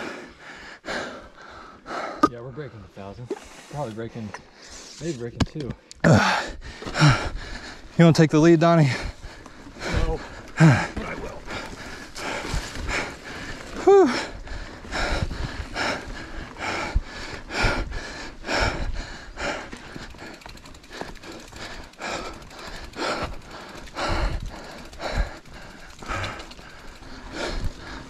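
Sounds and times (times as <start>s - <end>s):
person breathing hard: 0.0s - 2.3s, 6.0s - 8.0s, 8.8s - 28.0s.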